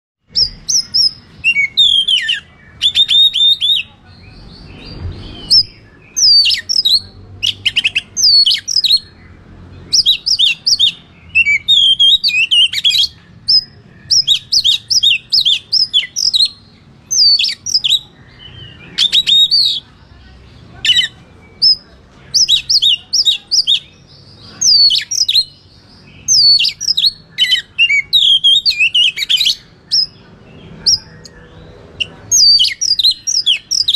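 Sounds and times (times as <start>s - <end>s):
bird singing whistles and trills: 0.3s - 9.2s, 9.9s - 19.8s, 20.8s - 30.2s, 30.8s - 33.9s.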